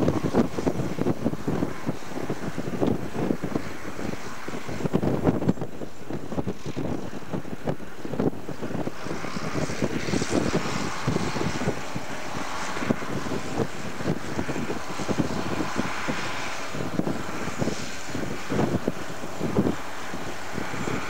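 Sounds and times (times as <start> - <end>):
distant tractor engine under load: 0.0 - 21.0
wind buffeting microphone: 0.0 - 21.0.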